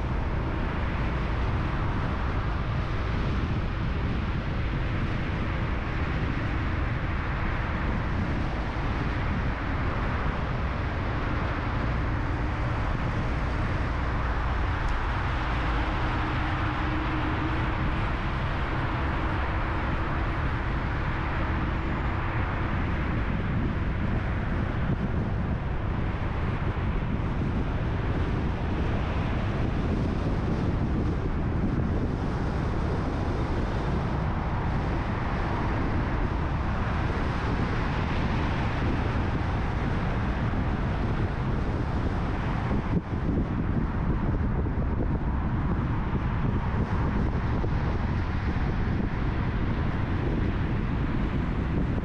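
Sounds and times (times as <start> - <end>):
tyre and road rumble: 0.0 - 52.0
wind noise on microphone: 0.0 - 52.0.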